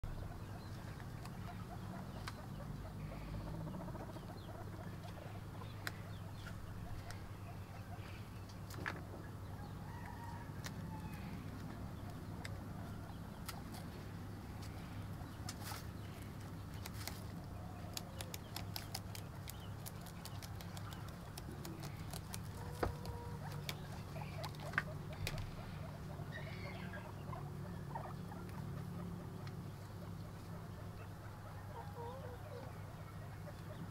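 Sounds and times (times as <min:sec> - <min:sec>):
guinea pigs chewing grass: 0:00.0 - 0:09.0, 0:10.6 - 0:31.9
steady low hum: 0:00.0 - 0:33.9.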